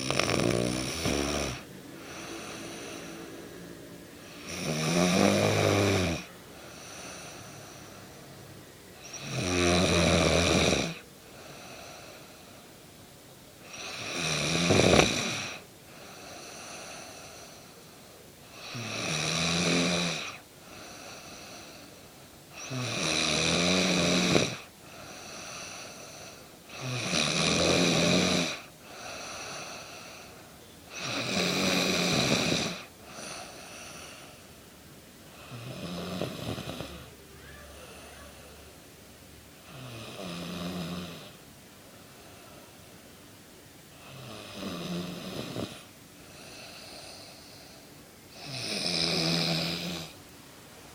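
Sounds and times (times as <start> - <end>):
woman snoring: 0.0 - 3.6, 4.2 - 8.1, 9.0 - 12.5, 13.6 - 17.7, 18.5 - 21.9, 22.5 - 34.5, 35.3 - 38.7, 39.6 - 41.4, 43.9 - 50.2
quiet breathing: 0.0 - 50.9.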